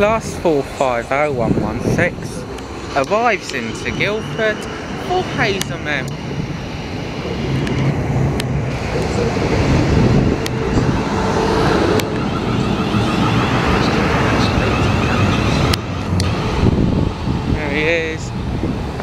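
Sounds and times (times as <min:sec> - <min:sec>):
faint traction motor whine: 0:00.0 - 0:19.0.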